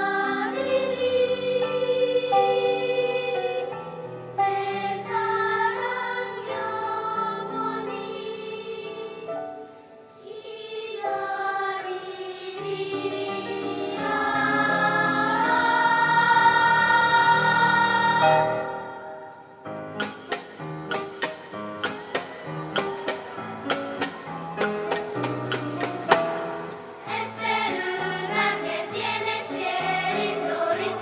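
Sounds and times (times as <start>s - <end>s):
children's choir singing: 0.0s - 31.0s.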